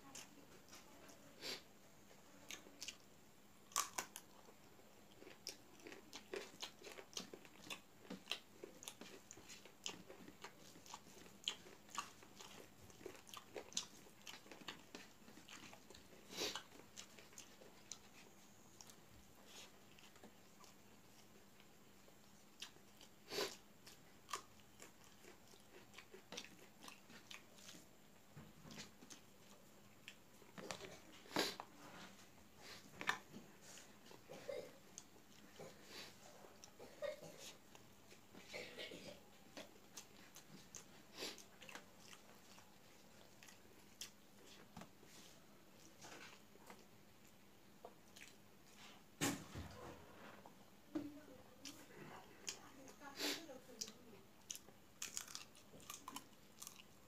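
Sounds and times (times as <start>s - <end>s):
person chewing food: 2.2s - 38.5s, 39.3s - 49.1s, 51.6s - 52.8s, 53.7s - 57.0s.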